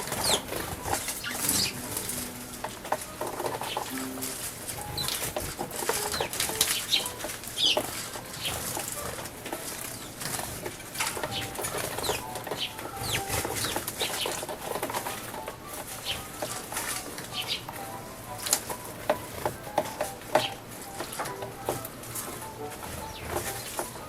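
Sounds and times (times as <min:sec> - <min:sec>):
sparrows chirping: 0:00.0 - 0:24.0
wings fluttering: 0:00.0 - 0:24.0.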